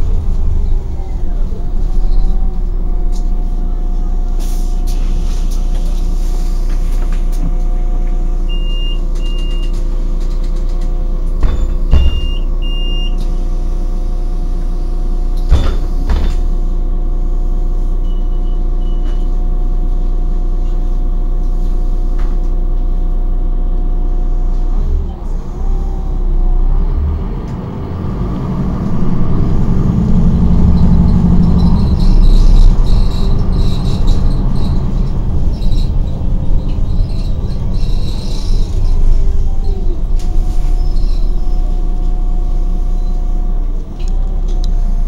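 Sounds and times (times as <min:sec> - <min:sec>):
bus engine hum: 0:00.0 - 0:45.0.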